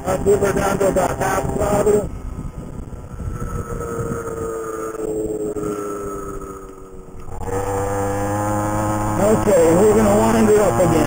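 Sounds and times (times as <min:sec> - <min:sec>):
scooter engine running: 0:00.0 - 0:11.0
wind noise on microphone: 0:00.0 - 0:11.0.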